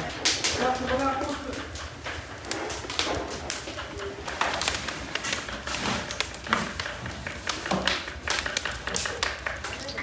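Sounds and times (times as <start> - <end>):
wood fire crackling: 0.0 - 10.0
kitchen clatter: 0.2 - 10.0.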